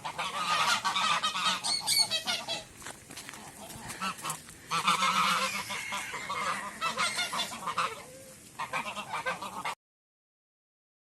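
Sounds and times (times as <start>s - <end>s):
ducks quacking: 0.0s - 9.8s.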